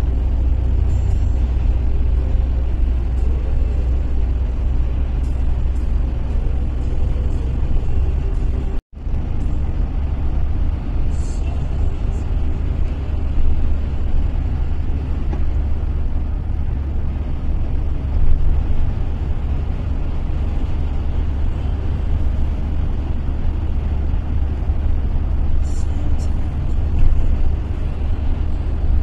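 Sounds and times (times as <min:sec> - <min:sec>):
car tyre and engine rumble: 0:00.0 - 0:29.0.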